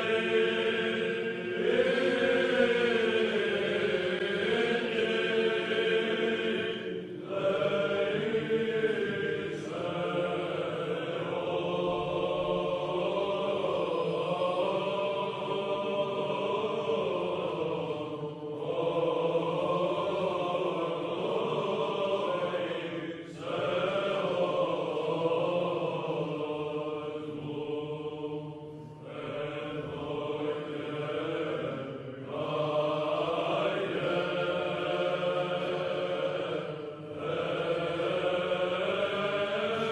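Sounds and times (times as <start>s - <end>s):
chant sung in melodic phrases: 0.0s - 39.9s.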